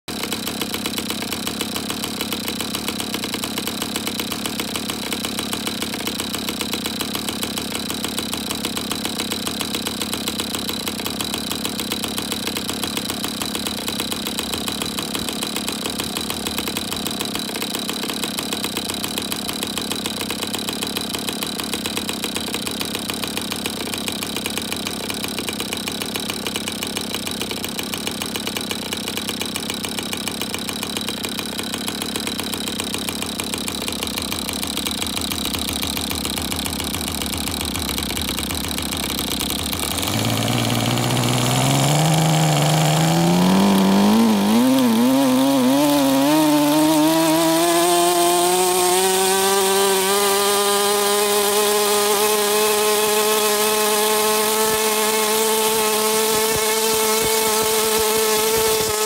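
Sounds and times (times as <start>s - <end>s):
model engine high-pitched whine: 0.1s - 59.0s.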